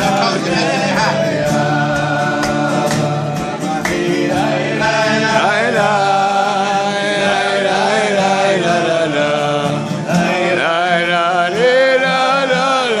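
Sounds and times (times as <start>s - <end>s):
acoustic guitars playing: 0.0s - 13.0s
men singing in unison: 0.0s - 13.0s.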